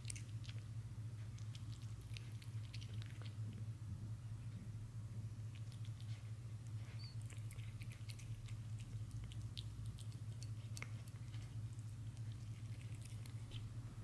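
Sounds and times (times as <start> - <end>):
cat licking and chewing: 0.0 - 3.7, 5.4 - 14.0
steady low hum: 0.0 - 14.0.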